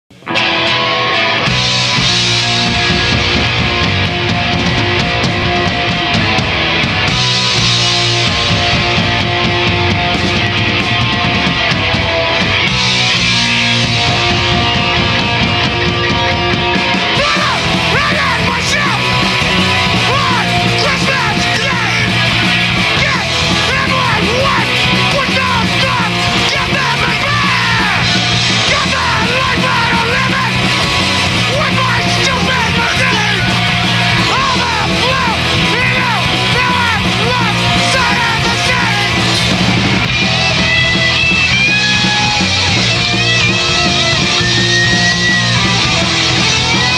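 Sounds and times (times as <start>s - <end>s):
drum kit: 0.1s - 46.9s
electric guitars: 0.1s - 46.9s
yelled lead vocal: 0.1s - 46.9s.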